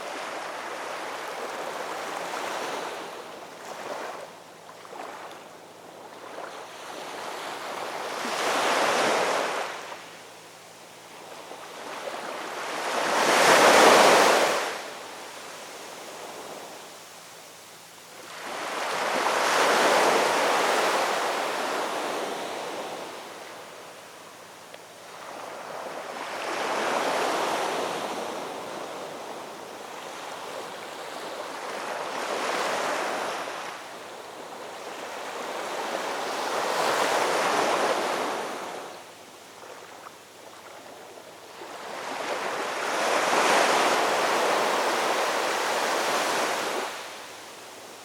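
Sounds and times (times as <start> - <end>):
ocean waves breaking on shore: 0.0 - 10.2, 11.0 - 17.0, 18.2 - 24.0, 25.0 - 48.0.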